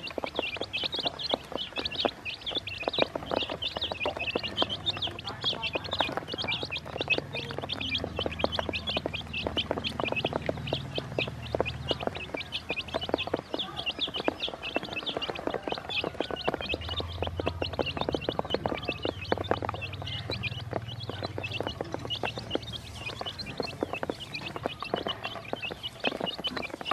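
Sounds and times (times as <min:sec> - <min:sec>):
baby chicks peeping: 0:00.0 - 0:26.9
beaks tapping on plastic: 0:00.0 - 0:26.9.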